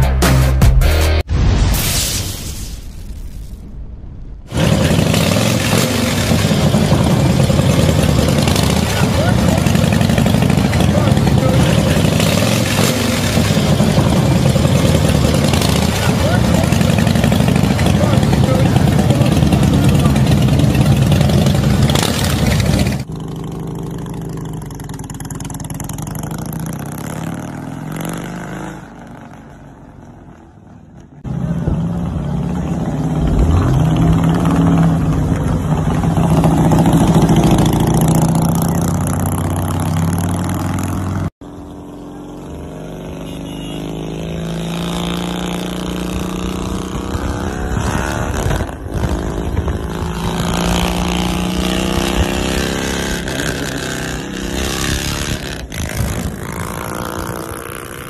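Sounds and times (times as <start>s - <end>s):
motorcycle accelerating past: 4.5s - 30.7s, 31.3s - 58.0s
motorcycle engines running: 4.5s - 58.0s.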